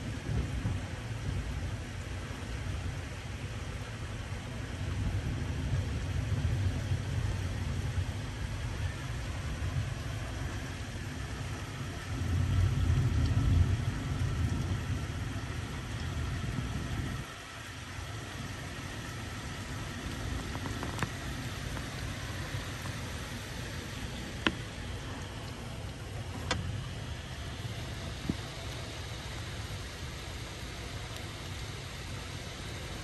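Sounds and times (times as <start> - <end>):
heavy rain downpour: 0.0 - 33.0
thunder rumbling: 0.0 - 33.0.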